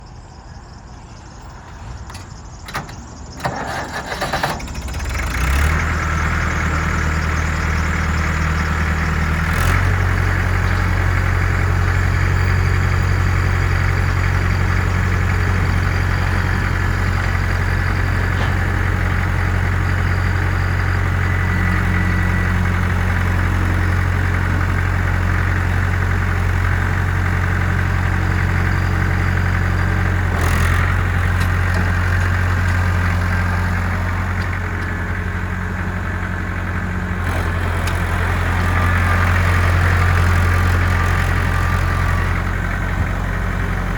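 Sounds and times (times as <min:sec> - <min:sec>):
tractor diesel engine starting: 0:02.0 - 0:43.9.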